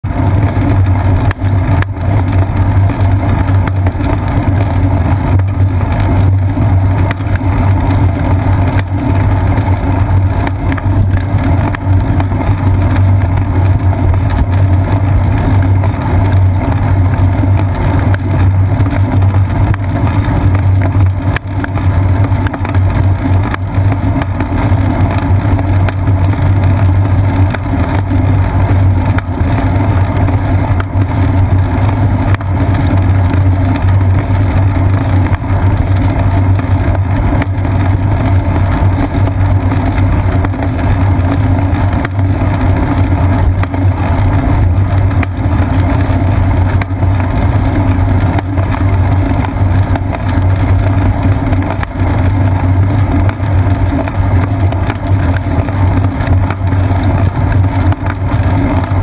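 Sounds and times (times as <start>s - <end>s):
bicycle road vibration: 0.0s - 59.0s
low rumble of wind: 0.0s - 59.0s.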